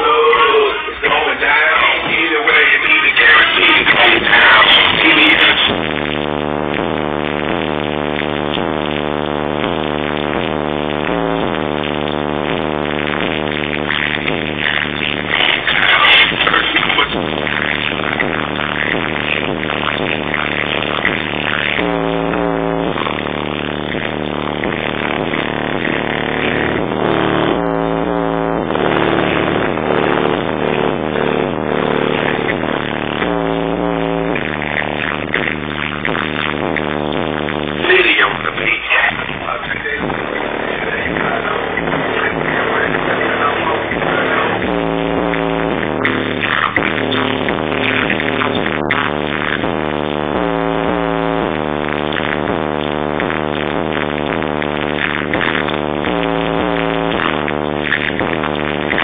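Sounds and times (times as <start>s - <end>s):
electronic music from car stereo: 0.0s - 59.0s.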